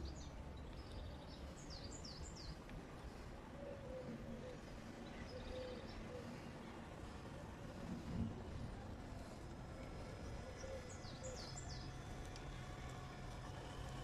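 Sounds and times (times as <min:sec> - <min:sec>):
wild birds chirping: 0:00.0 - 0:12.2
low outdoor noise: 0:00.0 - 0:14.0.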